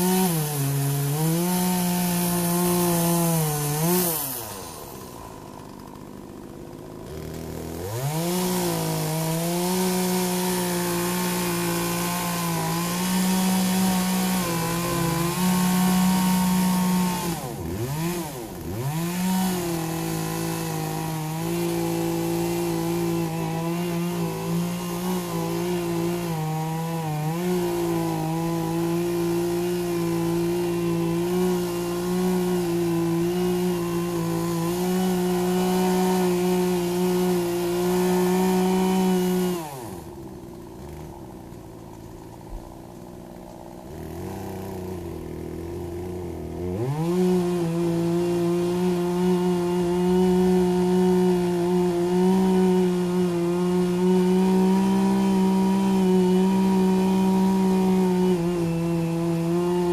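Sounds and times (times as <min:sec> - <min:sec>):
chainsaw cutting into stump: 0:00.0 - 0:59.9.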